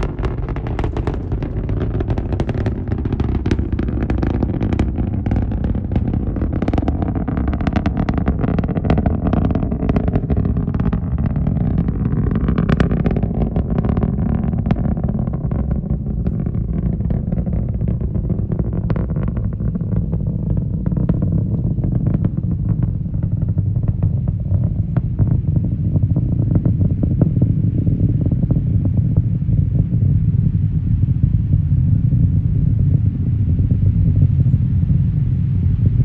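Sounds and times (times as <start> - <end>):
rocket launch roar with crackling: 0.0 - 36.0.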